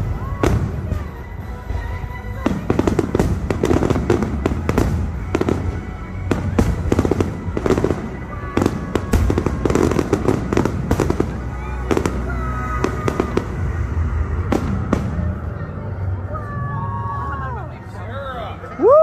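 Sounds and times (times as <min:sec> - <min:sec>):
fireworks bursting: 0:00.0 - 0:15.8
low rumble: 0:00.0 - 0:18.0.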